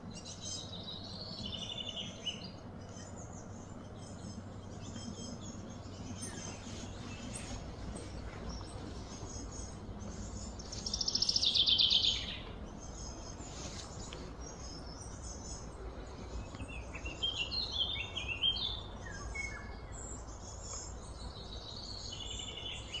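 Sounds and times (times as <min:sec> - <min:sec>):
low background rumble: 0:00.0 - 0:23.0
songbirds singing and chirping: 0:00.0 - 0:23.0.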